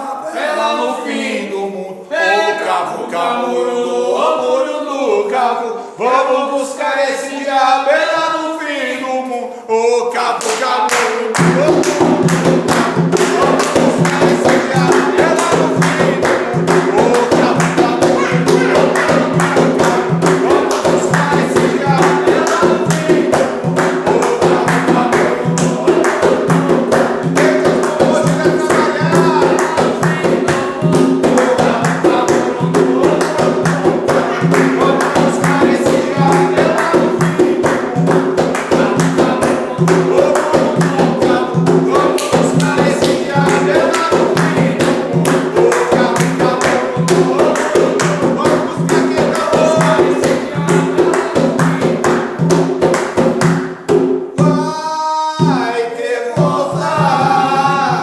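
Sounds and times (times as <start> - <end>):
group singing: 0.0 - 58.0
fast hand percussion: 10.4 - 55.8, 56.4 - 58.0.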